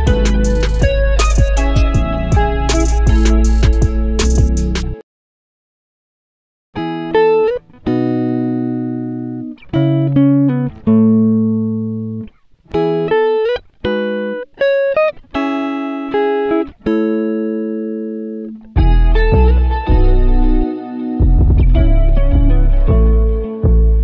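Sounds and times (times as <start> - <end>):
plucked string music: 0.0 - 5.0, 6.8 - 24.0.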